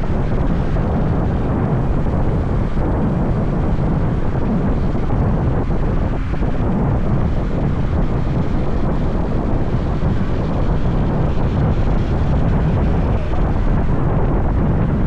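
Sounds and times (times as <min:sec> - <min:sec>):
motorbike and road noise: 0:00.0 - 0:15.0
wind buffeting microphone: 0:00.0 - 0:15.0.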